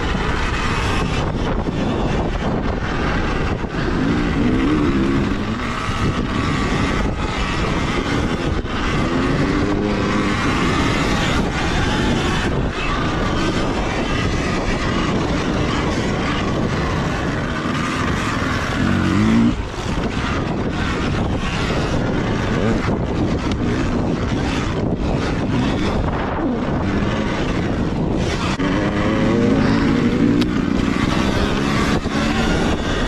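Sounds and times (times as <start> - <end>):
wind rushing: 0.0 - 33.0.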